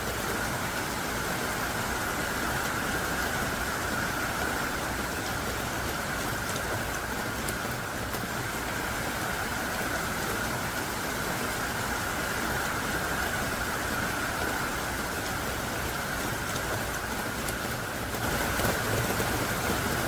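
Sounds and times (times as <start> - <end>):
heavy rain falling: 0.0 - 20.0
sharp raindrop ticks: 2.1 - 11.5, 12.1 - 20.0.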